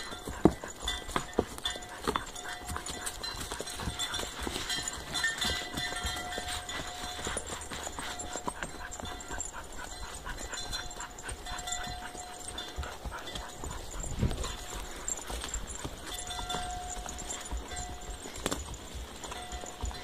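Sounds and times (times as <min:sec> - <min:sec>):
hooves clip-clopping on dirt: 0:00.0 - 0:20.0.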